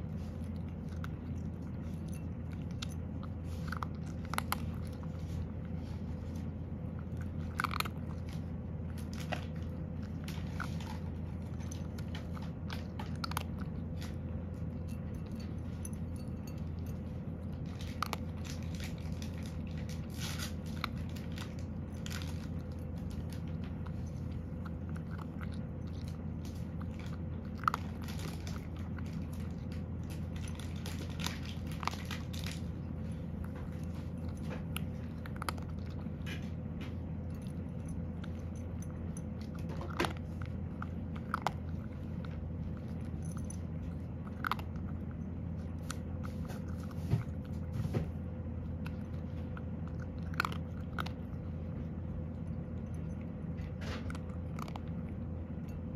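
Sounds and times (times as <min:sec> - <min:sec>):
cat crunching dry kibble: 0:00.0 - 0:55.9
steady low hum: 0:00.0 - 0:55.9.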